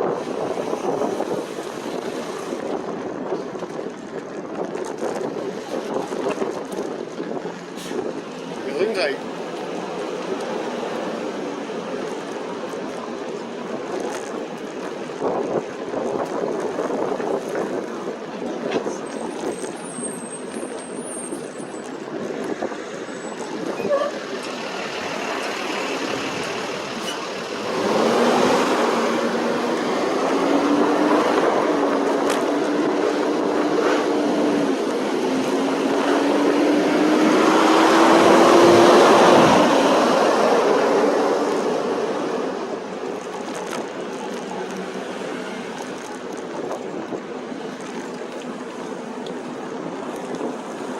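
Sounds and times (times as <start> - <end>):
passing road traffic: 0.0 - 50.9
wind rushing over microphone: 0.0 - 50.9.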